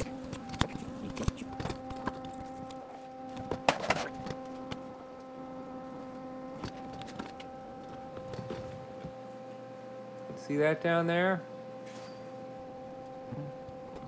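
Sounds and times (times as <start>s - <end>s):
machine hum with tones: 0.0s - 14.0s.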